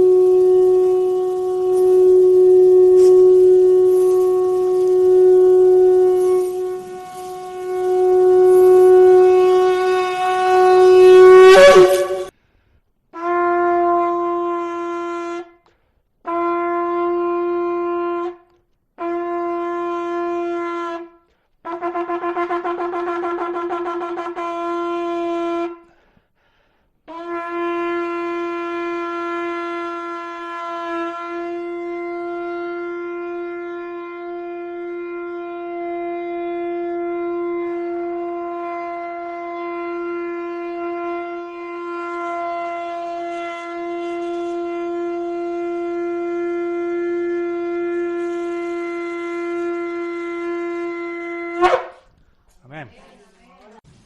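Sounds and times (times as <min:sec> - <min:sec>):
shofar blasts: 0:00.0 - 0:12.4, 0:13.1 - 0:15.6, 0:16.2 - 0:26.0, 0:27.0 - 0:52.2.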